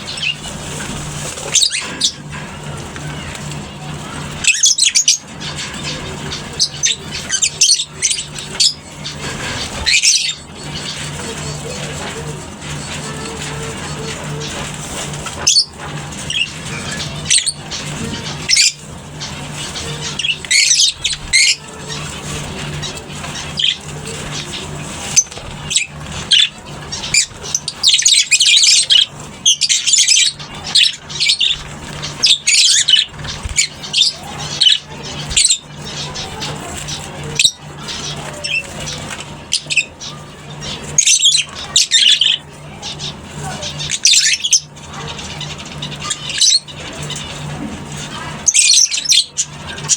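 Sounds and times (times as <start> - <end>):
lovebirds squawking and chirping: 0.0 - 49.9
steady low hum: 0.0 - 49.9.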